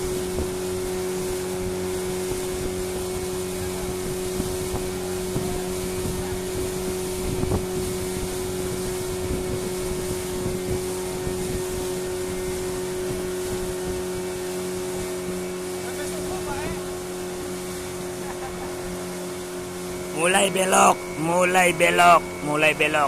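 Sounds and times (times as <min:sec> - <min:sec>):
boat engine running: 0:00.0 - 0:23.0
water noise: 0:00.0 - 0:23.0
wind: 0:00.0 - 0:23.0.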